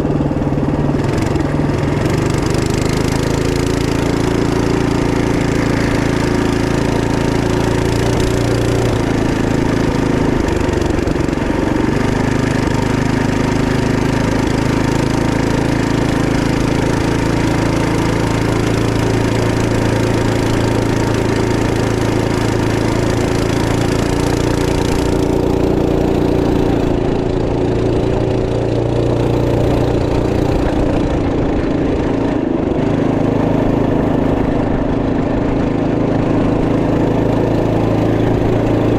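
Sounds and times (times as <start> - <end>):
minibike engine running: 0.0 - 38.9.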